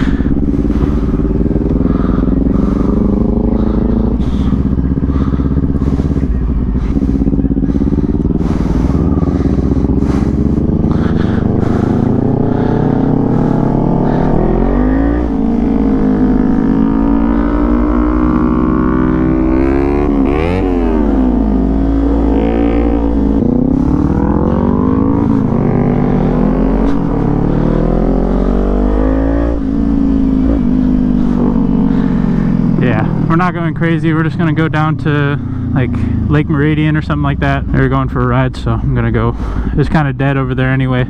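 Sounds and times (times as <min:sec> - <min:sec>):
motorcycle engine shifting gears: 0:00.0 - 0:40.9
second engine passing: 0:00.0 - 0:41.0
wind and road noise: 0:00.0 - 0:41.0.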